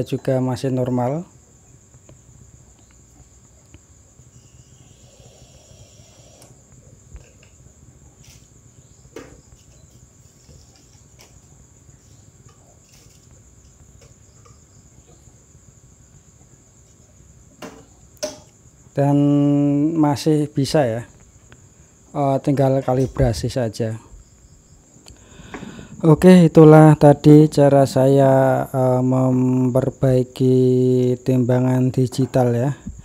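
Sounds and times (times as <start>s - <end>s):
cricket trill: 0.0s - 33.0s.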